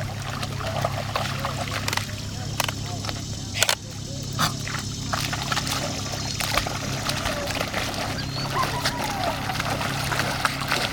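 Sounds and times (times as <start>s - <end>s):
steady low hum: 0.0s - 10.9s
water splashing and sloshing: 0.0s - 10.9s.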